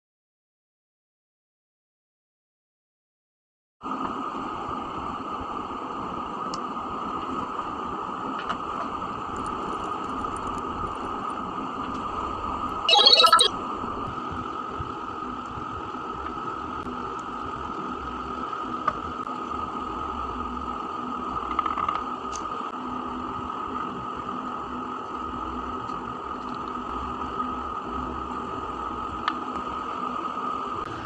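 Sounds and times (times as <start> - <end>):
mechanical hum with whine: 3.8 - 31.0.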